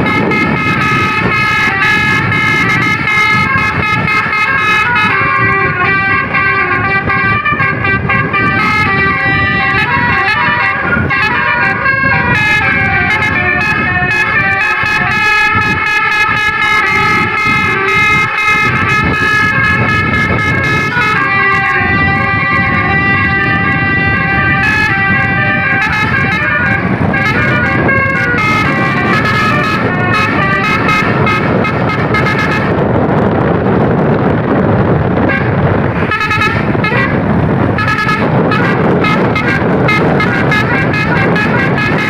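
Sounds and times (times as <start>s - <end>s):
short horn blasts: 0.0s - 32.9s, 35.2s - 42.0s
multi-tone air horn melody: 0.0s - 33.0s, 35.0s - 42.0s
steady noisy rush: 0.0s - 42.0s.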